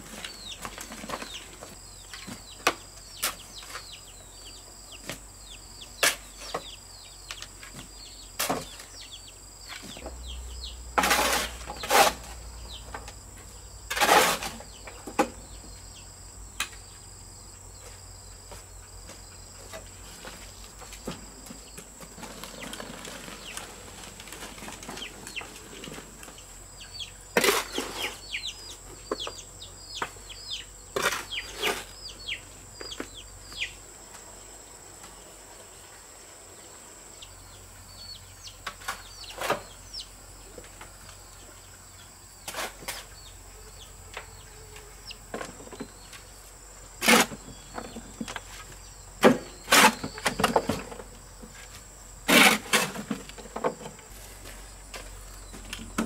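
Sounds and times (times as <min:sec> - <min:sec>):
birds chirping: 0:00.0 - 0:13.8, 0:14.4 - 0:51.4.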